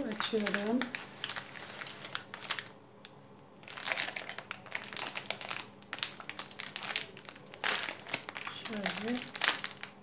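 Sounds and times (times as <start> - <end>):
foil packet crinkling: 0.0 - 10.0.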